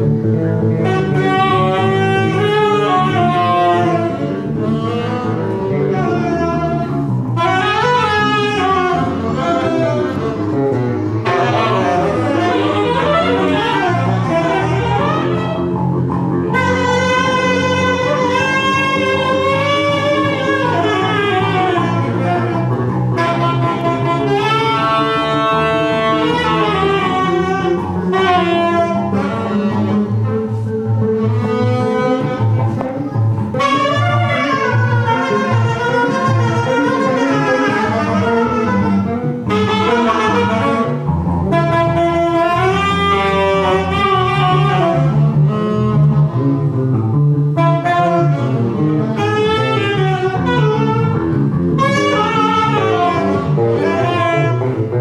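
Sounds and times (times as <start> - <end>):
double bass notes: 0.0 - 55.0
horn melody with pitch bends: 0.0 - 55.0.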